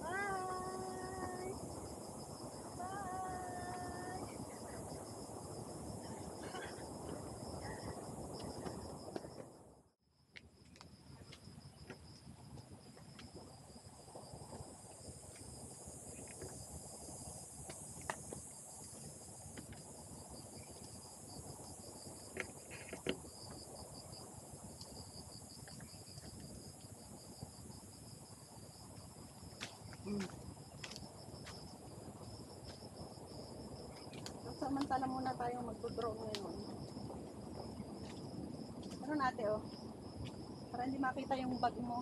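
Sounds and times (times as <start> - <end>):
insect chorus trilling: 0.0 - 9.6, 11.1 - 42.0.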